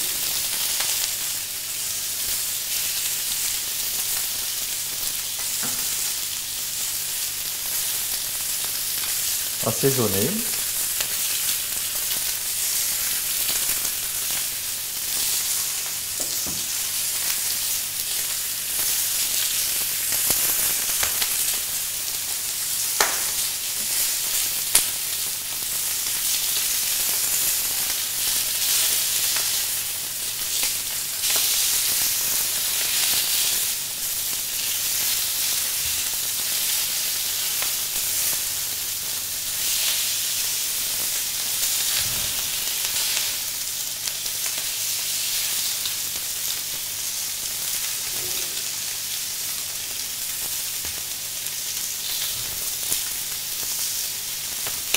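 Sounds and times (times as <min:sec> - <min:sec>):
fish sizzling on a grill: 0:00.0 - 0:54.9.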